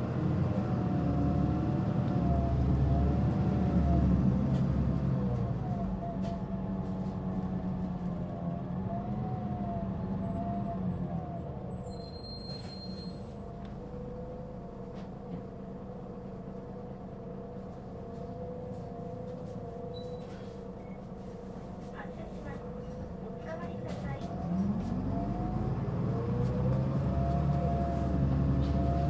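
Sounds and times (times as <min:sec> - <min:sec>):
bus diesel engine rumble: 0:00.0 - 0:29.0.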